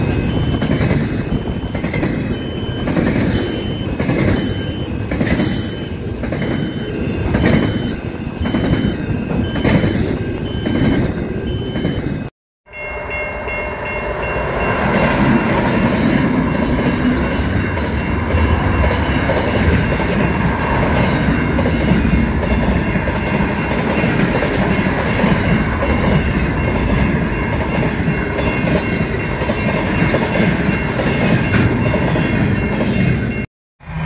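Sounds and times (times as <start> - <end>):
clickety-clack over rail joints: 0.0 - 5.6, 6.2 - 12.3, 15.4 - 33.4
diesel freight train passing: 0.0 - 34.0.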